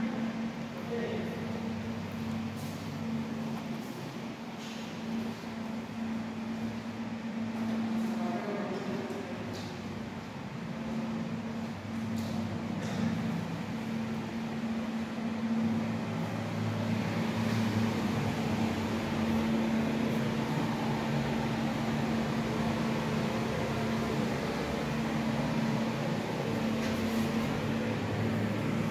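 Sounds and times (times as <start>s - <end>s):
machine hum with hiss: 0.0s - 28.9s.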